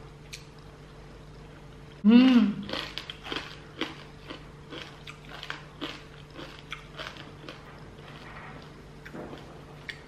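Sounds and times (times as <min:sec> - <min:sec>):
person chewing crunchily: 0:00.2 - 0:10.0.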